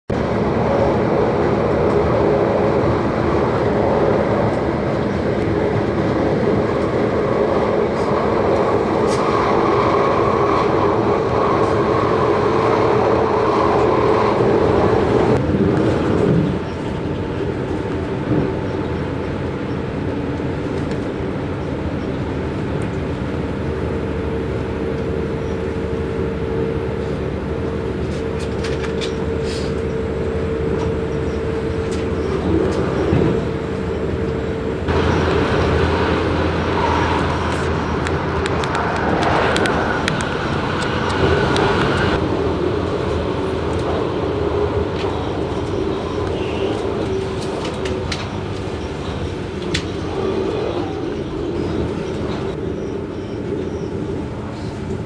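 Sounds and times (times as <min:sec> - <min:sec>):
train rolling with engine hum: 0:00.1 - 0:55.0.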